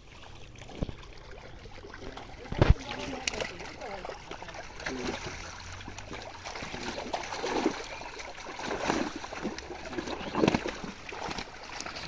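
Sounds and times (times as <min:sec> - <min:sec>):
pond water splashing: 0:00.0 - 0:12.0.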